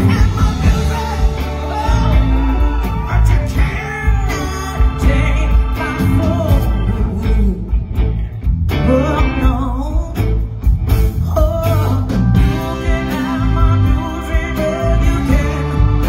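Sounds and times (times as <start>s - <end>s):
live blues band playing: 0.0s - 16.0s.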